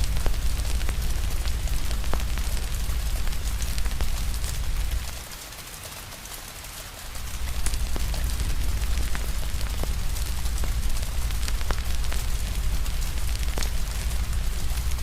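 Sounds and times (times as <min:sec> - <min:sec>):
low rumble: 0:00.0 - 0:05.2, 0:07.2 - 0:15.0
rain hiss: 0:00.0 - 0:15.0
wood fire crackling: 0:00.0 - 0:15.0.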